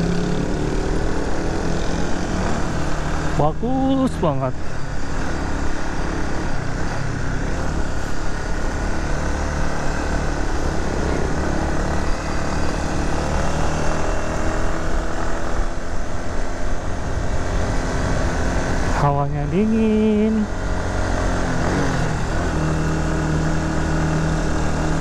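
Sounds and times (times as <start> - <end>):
motorcycle engine hum: 0.0 - 25.0
wind and road noise: 0.0 - 25.0.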